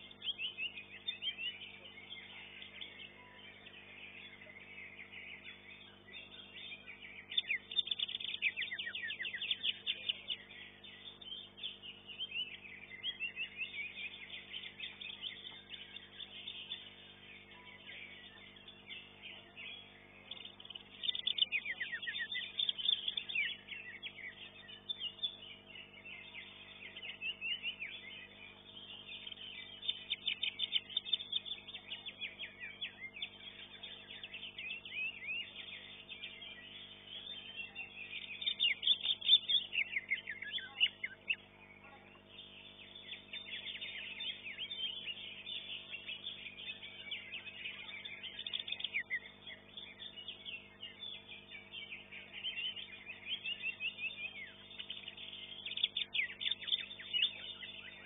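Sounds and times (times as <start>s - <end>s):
bird chirping and trilling: 0.0s - 58.0s
faint steady hum: 0.0s - 58.0s.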